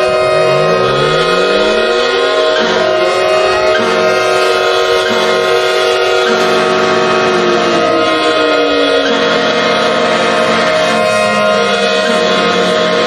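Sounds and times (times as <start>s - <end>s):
electronic alert alarm tones: 0.0s - 13.0s.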